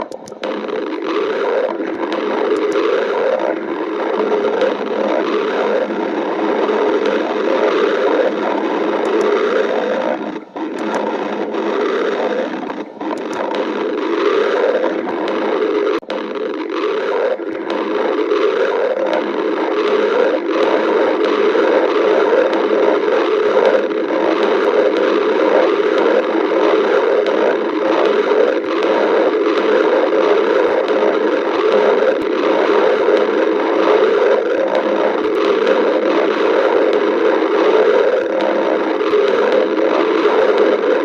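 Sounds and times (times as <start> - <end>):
stomach growling: 0.0 - 41.0.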